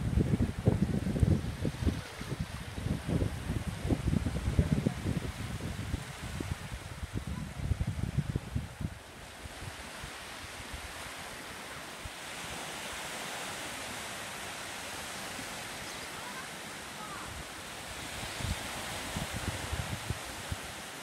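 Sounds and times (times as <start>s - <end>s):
small waves breaking on a beach: 0.0s - 21.0s
wind buffeting the microphone: 0.0s - 21.0s.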